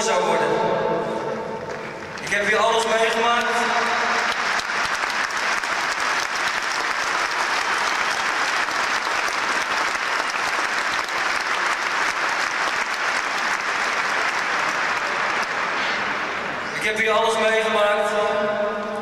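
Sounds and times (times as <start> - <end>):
stadium crowd applauding: 1.6 - 17.4.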